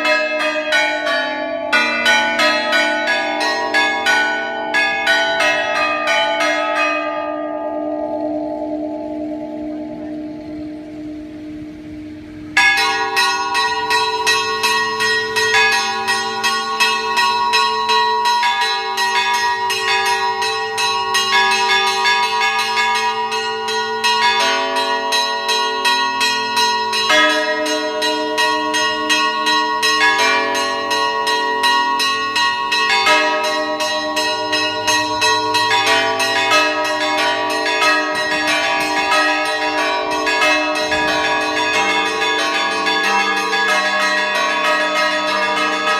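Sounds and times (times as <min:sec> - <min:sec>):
many bells pealing: 0:00.0 - 0:45.9.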